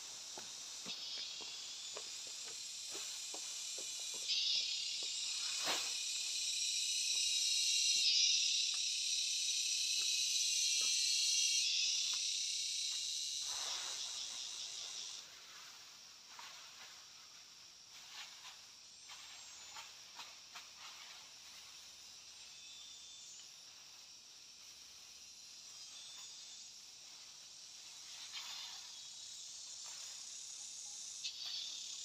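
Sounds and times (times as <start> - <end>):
insect chorus buzzing: 0.0 - 32.0.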